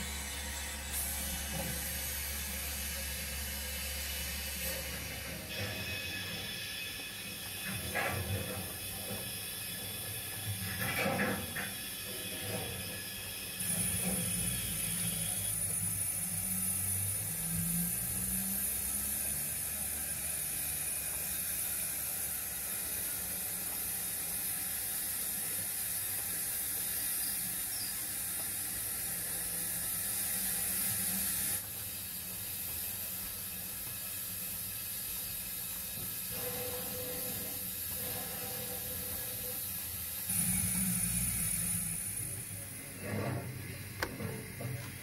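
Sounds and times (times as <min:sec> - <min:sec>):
model train rumbling on track: 0:00.0 - 0:45.0
steady hiss: 0:00.0 - 0:45.0.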